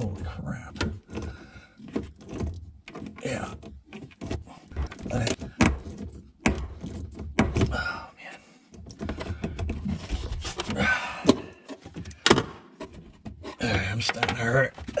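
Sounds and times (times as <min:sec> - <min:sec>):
hoses and clamps rattling: 0:00.0 - 0:08.0, 0:08.7 - 0:15.0.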